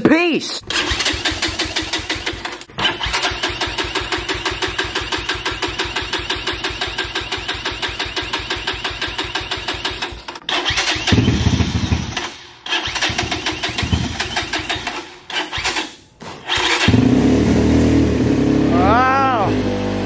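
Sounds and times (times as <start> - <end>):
electric starter cranking: 0.6 - 18.7
dirt bike engine running: 0.7 - 14.9, 16.5 - 20.0.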